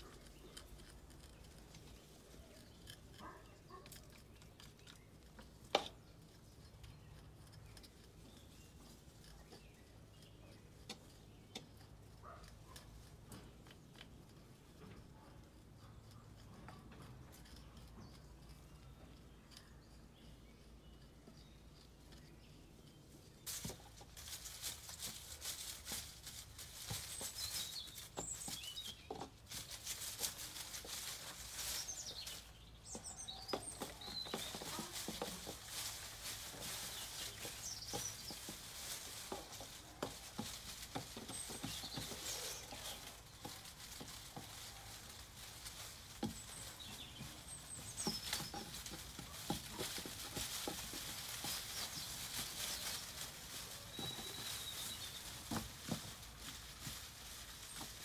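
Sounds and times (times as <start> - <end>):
small birds chirping: 0.0 - 58.0
stick jabbing soil in pot: 0.0 - 58.0.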